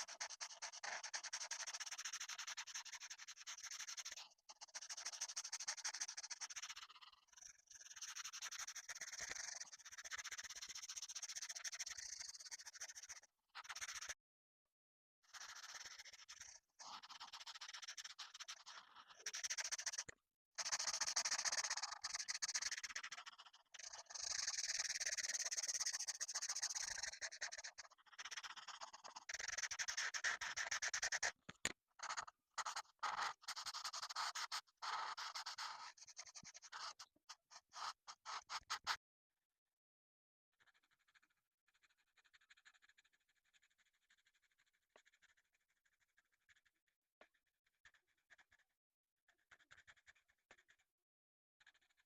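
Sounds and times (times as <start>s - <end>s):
colouring strokes on paper: 0.0s - 14.2s, 15.3s - 31.4s, 32.0s - 39.0s, 40.6s - 50.9s.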